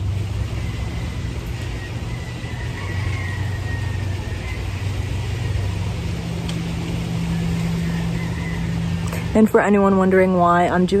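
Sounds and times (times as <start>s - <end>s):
background rush: 0.0s - 11.0s
low mechanical hum: 0.0s - 11.0s.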